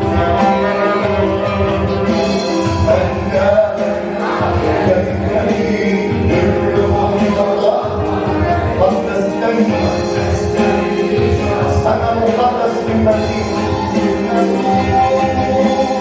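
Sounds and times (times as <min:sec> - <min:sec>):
singing voices: 0:00.0 - 0:16.0
sustained instrumental chords: 0:00.0 - 0:16.0.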